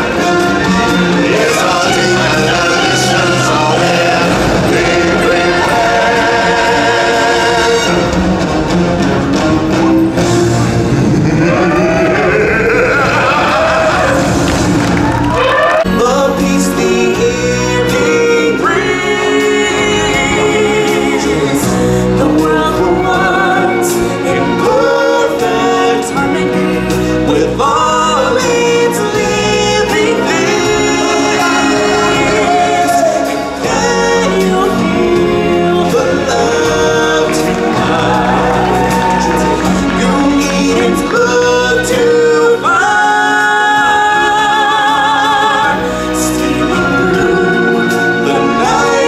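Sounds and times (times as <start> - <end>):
backing music: 0.0 - 49.0
choir singing: 0.0 - 49.0.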